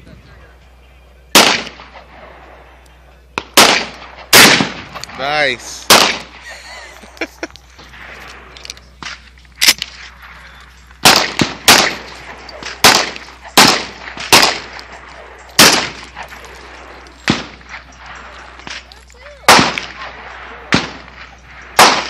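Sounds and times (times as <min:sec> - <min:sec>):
shotgun shots with echo: 0:01.3 - 0:02.7, 0:03.4 - 0:06.4, 0:07.8 - 0:22.0.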